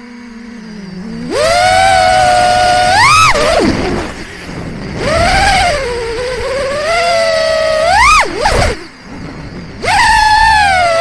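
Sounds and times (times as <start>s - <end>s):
drone motors whining: 0.0s - 11.0s
low wind rumble: 0.0s - 11.0s.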